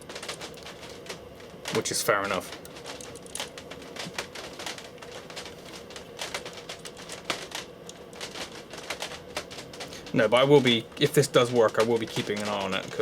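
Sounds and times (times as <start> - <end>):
faint steady hum: 0.0 - 13.0
small parts clicking and tapping: 0.0 - 13.0.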